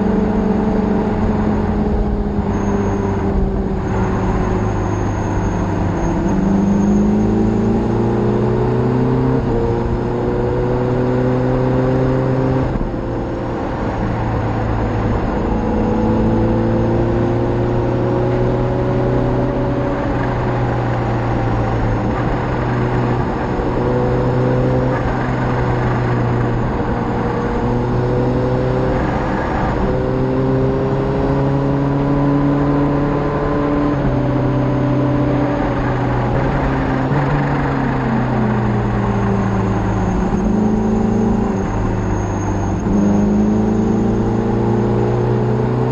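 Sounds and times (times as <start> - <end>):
motorcycle engine accelerating: 0.0 - 45.9
wind and road noise: 0.0 - 45.9.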